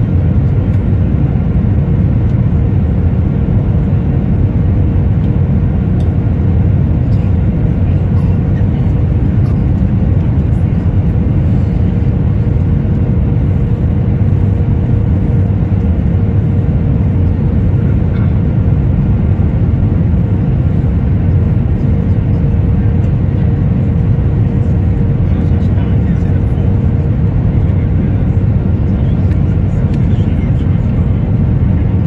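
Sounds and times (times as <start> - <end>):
airliner cabin engine rumble: 0.0 - 32.0
faint steady whine: 0.0 - 32.0.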